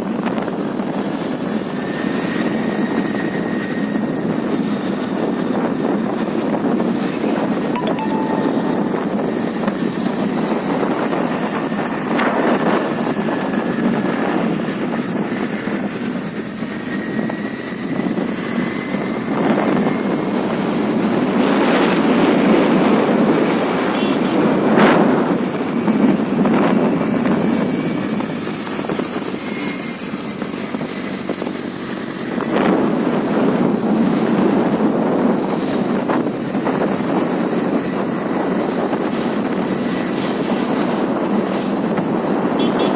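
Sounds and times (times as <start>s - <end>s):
wind rushing over microphone: 0.0s - 7.7s, 8.7s - 42.9s.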